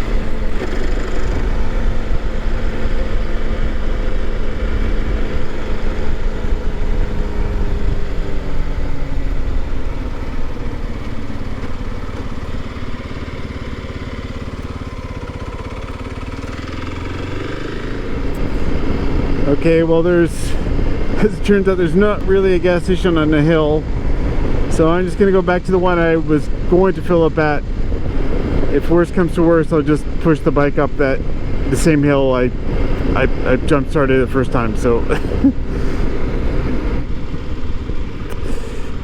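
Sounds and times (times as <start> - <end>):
low wind rumble: 0.0 - 39.0
motorcycle engine running: 0.0 - 39.0.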